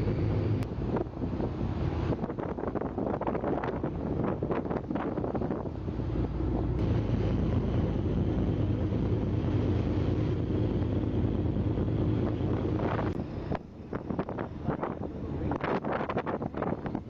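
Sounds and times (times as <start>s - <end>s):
ship rumble and hum: 0.0s - 17.0s
wind buffeting microphone: 0.0s - 17.0s.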